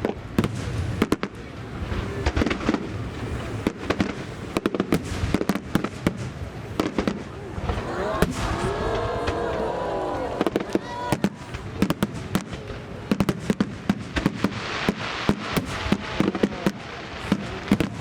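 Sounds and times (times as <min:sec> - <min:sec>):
fireworks bursting: 0:00.0 - 0:18.0
hissing crackle: 0:00.0 - 0:18.0.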